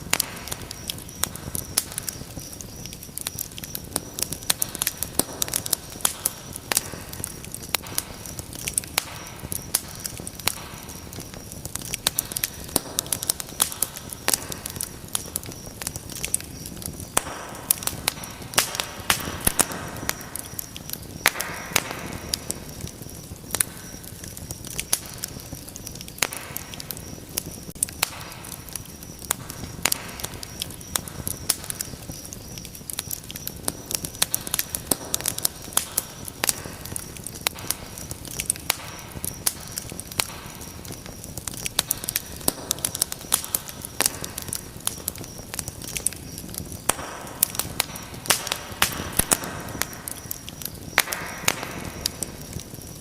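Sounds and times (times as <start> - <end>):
rushing flame: 0.0 - 53.0
wood fire crackling and popping: 0.0 - 53.0.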